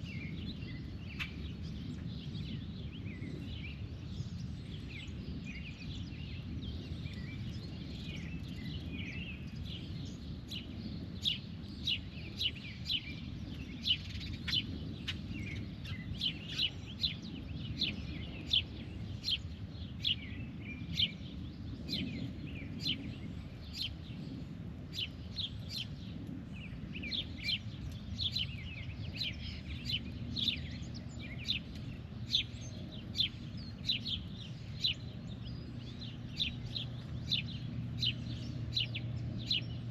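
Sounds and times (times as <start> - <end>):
low background rumble: 0.0 - 39.9.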